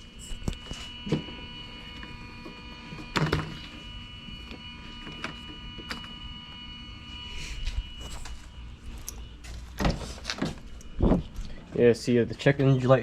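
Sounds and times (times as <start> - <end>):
steady electrical whine: 0.0 - 13.0.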